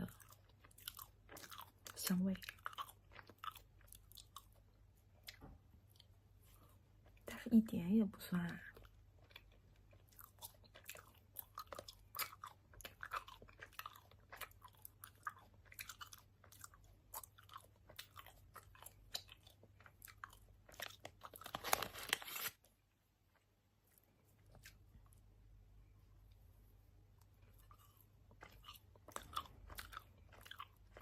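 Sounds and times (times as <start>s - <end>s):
open-mouthed chewing: 0.0s - 7.3s, 8.4s - 22.5s, 23.2s - 25.3s, 27.1s - 31.0s.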